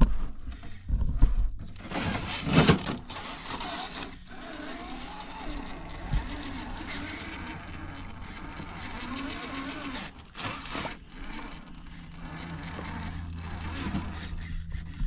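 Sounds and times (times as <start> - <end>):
electric motor whining: 1.6 - 15.0.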